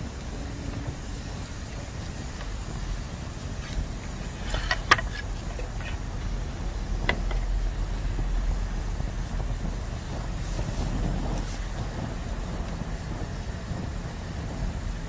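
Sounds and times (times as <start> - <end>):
bamboo crackling and popping in fire: 0.0 - 15.0
low steady rumble: 0.0 - 15.0.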